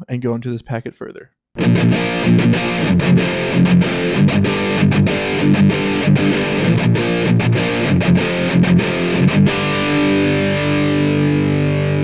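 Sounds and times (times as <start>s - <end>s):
distorted electric guitar: 1.6s - 12.0s.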